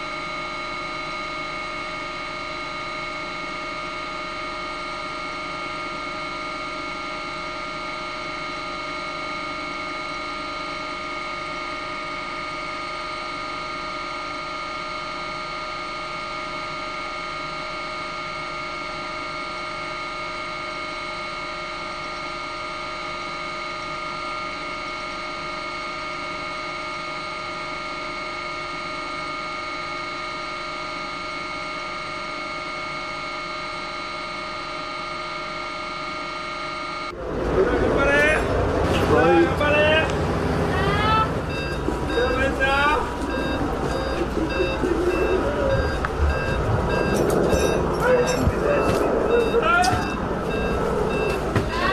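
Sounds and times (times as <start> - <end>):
helicopter turbine drone: 0.0 - 51.9.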